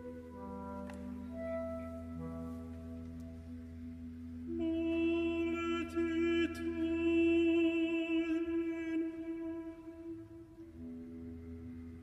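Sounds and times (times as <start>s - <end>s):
slow music with held notes: 0.0s - 12.0s.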